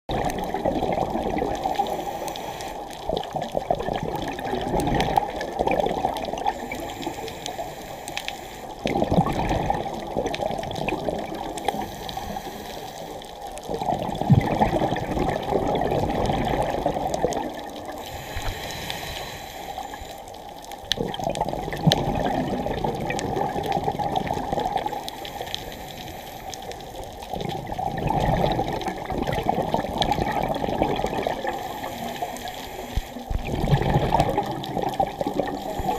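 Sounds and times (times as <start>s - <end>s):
underwater bubbling and gurgling: 0.1s - 35.9s.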